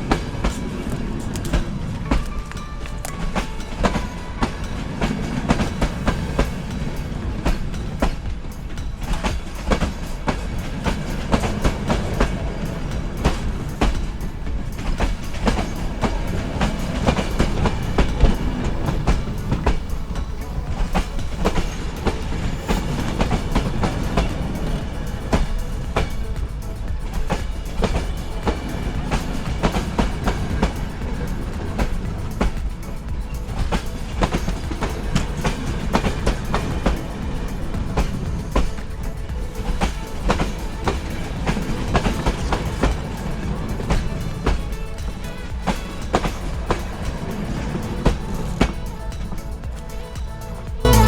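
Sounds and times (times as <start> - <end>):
train rumbling on rails: 0.0 - 51.0
wheels clicking over rail joints: 0.0 - 51.0.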